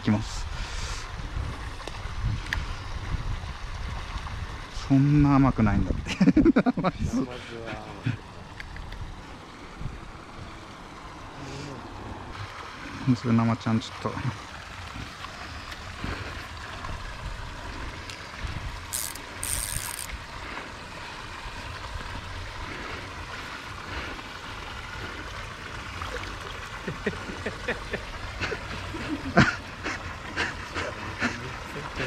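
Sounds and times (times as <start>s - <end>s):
rushing water: 0.0s - 32.0s
wind: 0.0s - 32.0s.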